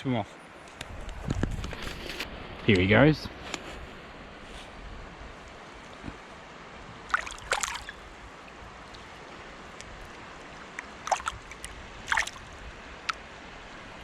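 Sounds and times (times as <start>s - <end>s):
river water splashing and trickling: 2.1s - 14.0s.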